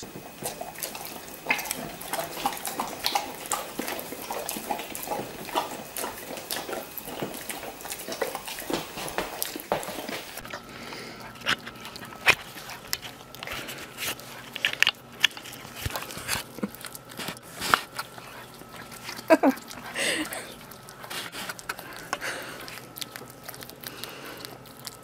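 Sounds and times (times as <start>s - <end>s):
dogs smacking and licking: 0.0s - 25.0s.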